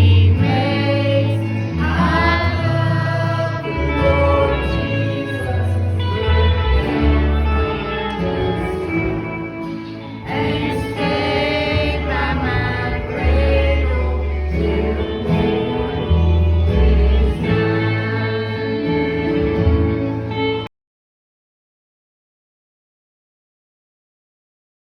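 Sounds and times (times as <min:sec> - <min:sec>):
choir singing gospel music: 0:00.0 - 0:20.5
instrumental accompaniment: 0:00.0 - 0:20.7.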